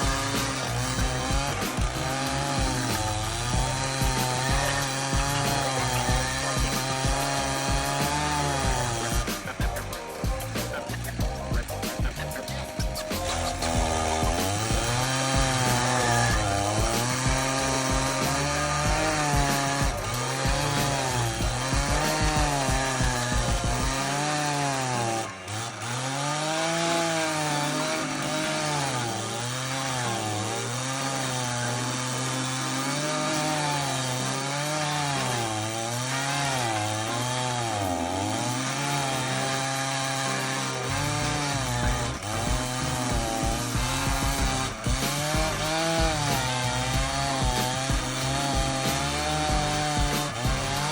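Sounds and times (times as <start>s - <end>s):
chainsaw engine at high revs: 0.0s - 50.9s
cutter grinding into wood: 0.0s - 50.9s.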